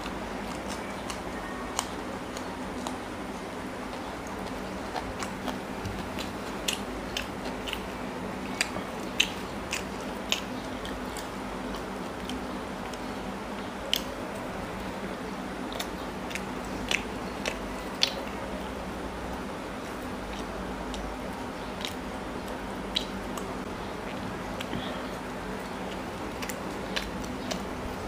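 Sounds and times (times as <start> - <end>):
chewing and mouth smacks: 0.0 - 3.1, 3.8 - 14.9, 15.6 - 18.4, 19.8 - 28.0
steady low hum: 0.0 - 28.0.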